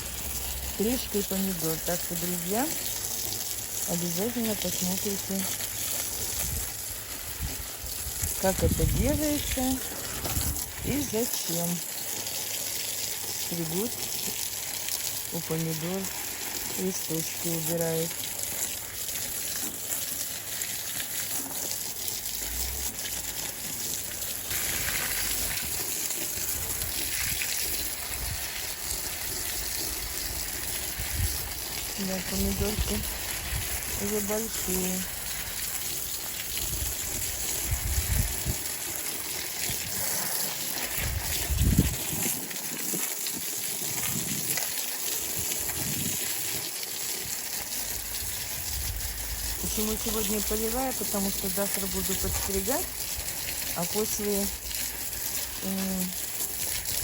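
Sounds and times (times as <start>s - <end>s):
water gushing onto plants: 0.0s - 57.0s.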